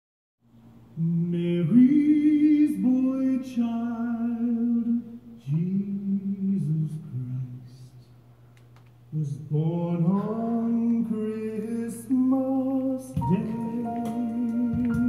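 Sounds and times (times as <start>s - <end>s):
man singing with vibrato: 0.9s - 8.1s, 9.1s - 15.0s.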